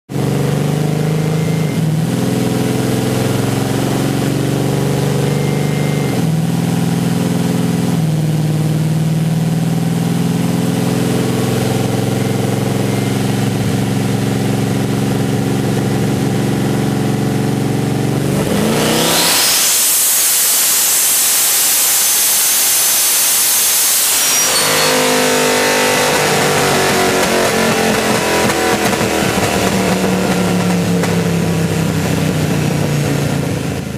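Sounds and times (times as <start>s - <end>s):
engine running at low revs: 0.1s - 33.9s
turbo whine: 0.1s - 33.9s.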